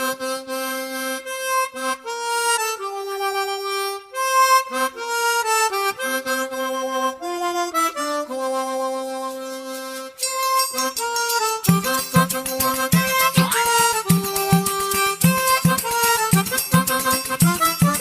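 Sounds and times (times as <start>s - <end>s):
harmonica melody: 0.0s - 18.0s.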